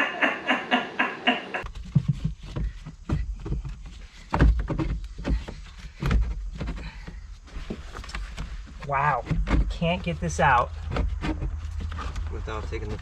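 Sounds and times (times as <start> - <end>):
plastic and metal parts clunking: 1.6 - 13.0.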